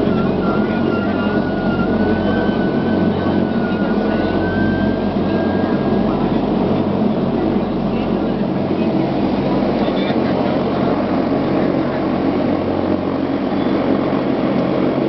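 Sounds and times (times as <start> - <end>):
faint high whine: 0.0 - 15.0
turboprop engines and propellers: 0.0 - 15.0.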